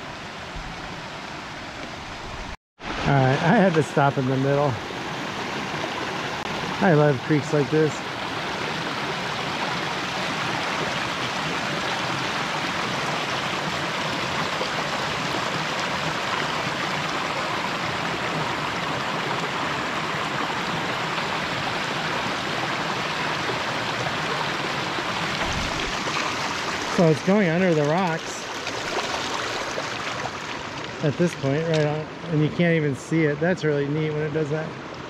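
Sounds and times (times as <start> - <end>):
creek flowing over rocks: 0.0 - 35.0.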